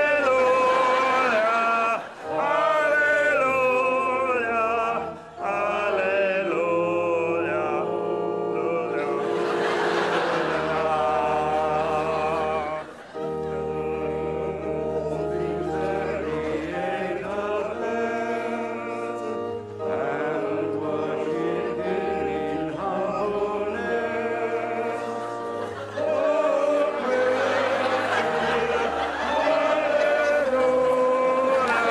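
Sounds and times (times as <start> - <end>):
congregation singing a hymn: 0.0 - 31.9
organ chords: 0.0 - 31.9.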